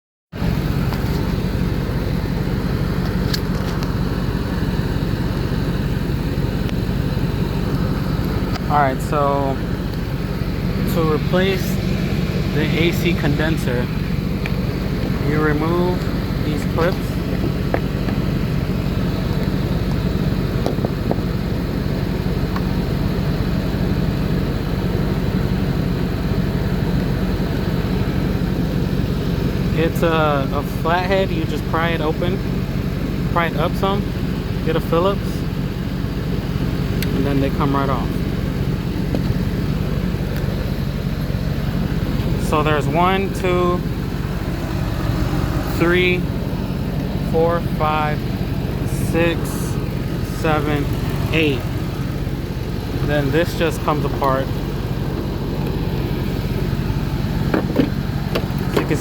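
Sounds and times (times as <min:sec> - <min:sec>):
vehicle engine idling: 0:00.3 - 0:59.0.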